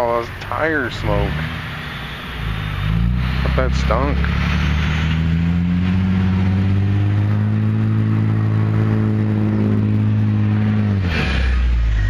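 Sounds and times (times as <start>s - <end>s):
truck engine revving high: 0.0s - 12.0s.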